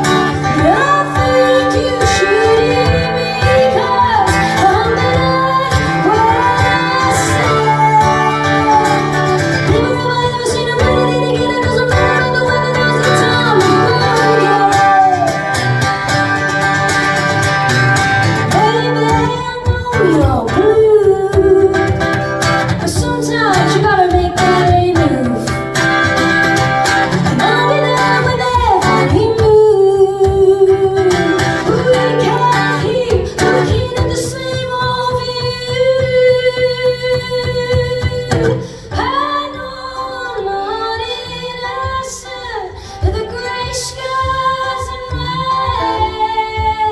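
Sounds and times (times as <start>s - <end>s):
strummed guitar: 0.0s - 46.9s
woman singing: 0.0s - 46.9s.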